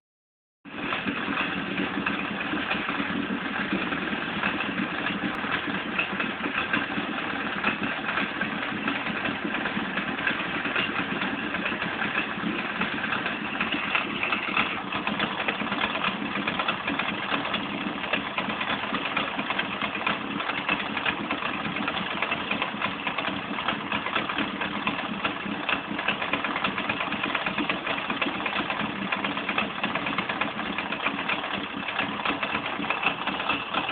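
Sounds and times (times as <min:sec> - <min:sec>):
outboard motor running with knock: 0:00.6 - 0:33.9.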